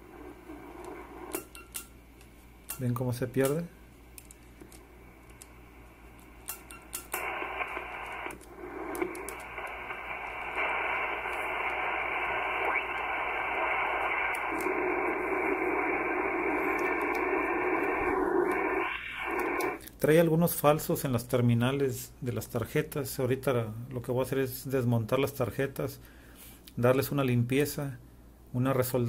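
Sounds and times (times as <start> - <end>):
radio static hiss: 0.0 - 1.9, 4.6 - 26.0.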